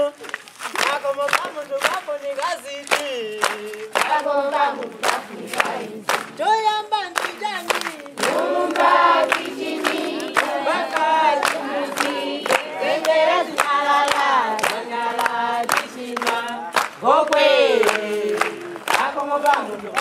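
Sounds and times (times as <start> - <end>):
steady handclaps: 0.2 - 20.0
children and adults singing: 0.9 - 6.4, 7.3 - 20.0.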